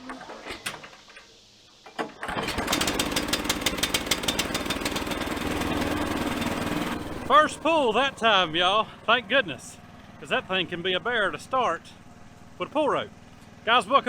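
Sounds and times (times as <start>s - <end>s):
sawmill engine pull-started: 1.8s - 14.0s.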